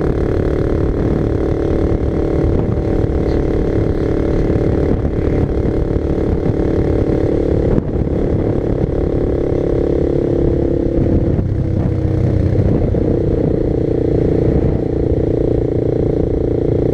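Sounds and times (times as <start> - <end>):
motorcycle engine riding: 0.0 - 16.9.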